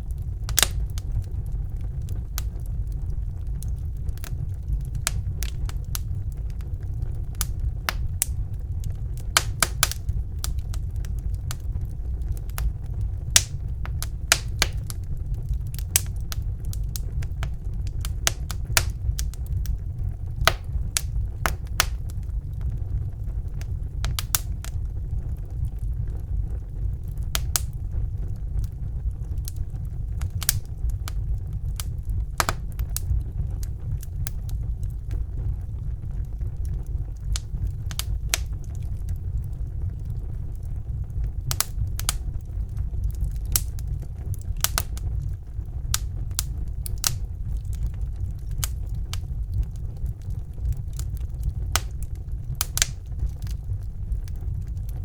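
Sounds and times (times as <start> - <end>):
low rumble: 0.0 - 55.0
wood fire crackling: 0.0 - 55.0.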